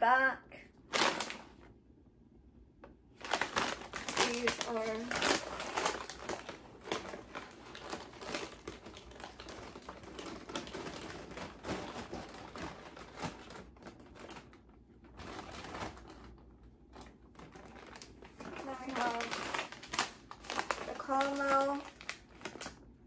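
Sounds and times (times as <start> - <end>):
plastic snack bags rustling: 0.8 - 1.7, 3.2 - 23.0.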